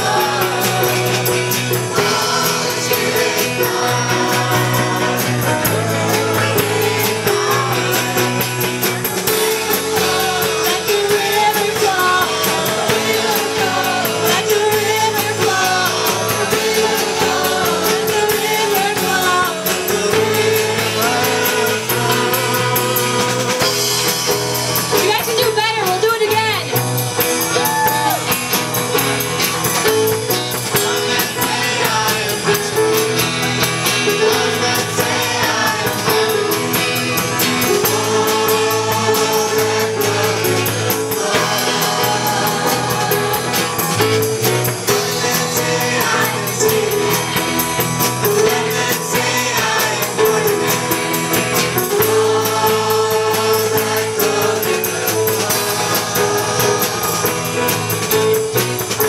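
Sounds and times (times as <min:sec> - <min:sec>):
choir singing with band: 0:00.0 - 0:59.0.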